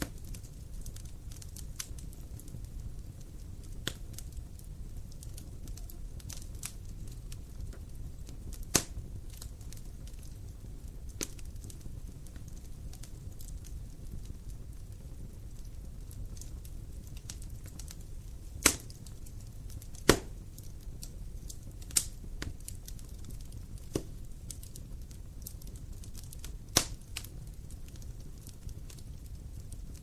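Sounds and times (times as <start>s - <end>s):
fire popping: 0.0s - 30.0s
wood fire crackling: 0.0s - 30.0s.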